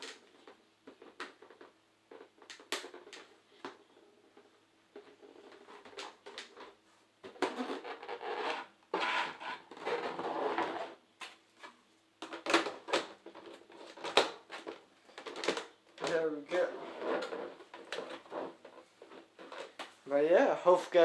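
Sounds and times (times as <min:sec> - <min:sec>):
plastic scraping on tabletop: 0:00.4 - 0:11.0, 0:12.4 - 0:19.9.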